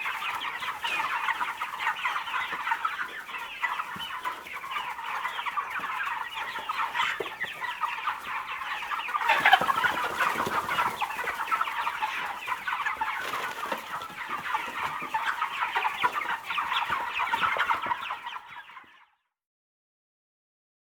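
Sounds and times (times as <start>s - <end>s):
chickens clucking: 0.0s - 19.2s.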